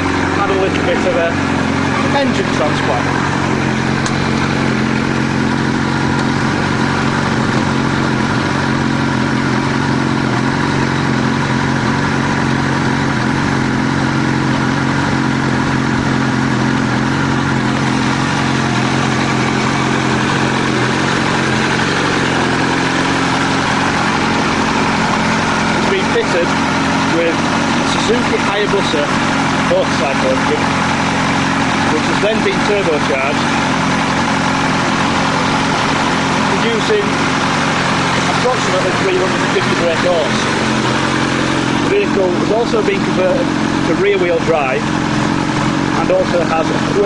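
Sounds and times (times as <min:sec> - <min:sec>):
motorcycle engine idling: 0:00.0 - 0:47.0.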